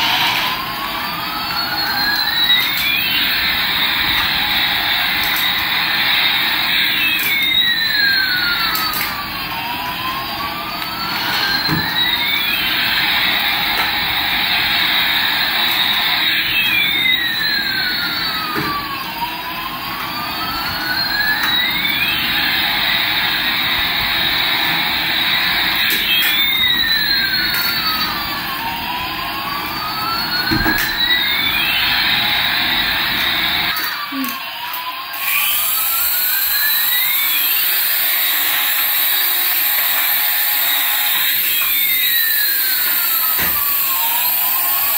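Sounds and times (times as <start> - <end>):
small motor whirring: 0.0 - 44.9
toy jet engine sound: 0.0 - 44.9.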